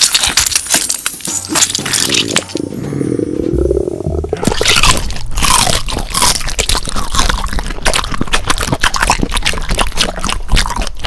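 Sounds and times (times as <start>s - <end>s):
crisp crunching and chewing: 0.0s - 2.7s, 4.4s - 11.0s.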